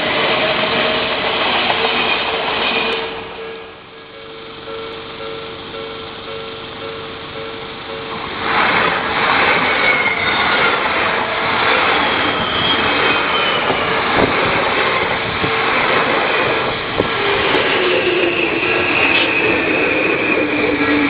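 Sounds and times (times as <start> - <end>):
electric train passing: 0.0 - 21.0
train motor whine: 0.0 - 21.0
wheels clacking on rails: 0.0 - 21.0
level crossing warning bell: 2.9 - 9.2, 9.9 - 21.0.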